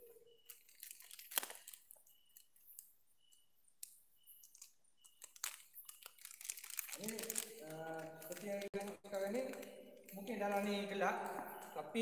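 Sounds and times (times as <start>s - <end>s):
faint high chirps: 0.0s - 8.4s, 9.1s - 12.0s.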